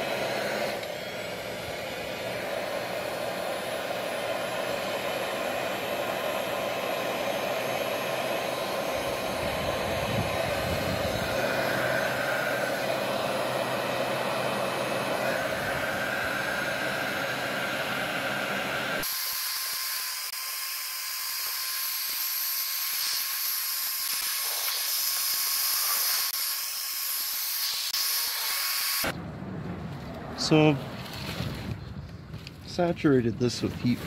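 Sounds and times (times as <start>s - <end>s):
heat gun blowing: 0.0s - 29.1s.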